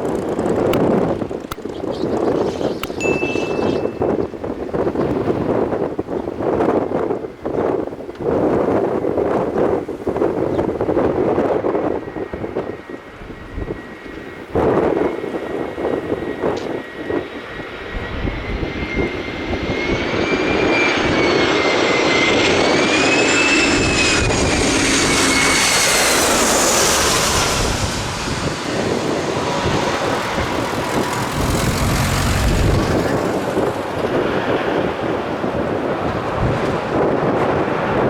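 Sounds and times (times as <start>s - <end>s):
jet engines roaring overhead: 0.0s - 38.0s
wind rumbling on microphone: 0.0s - 38.0s.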